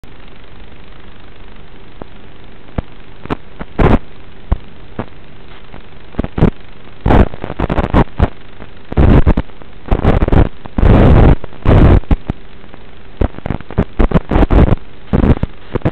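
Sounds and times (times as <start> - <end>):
static crackles: 0.0 - 15.9
steady radio hiss: 0.0 - 15.9.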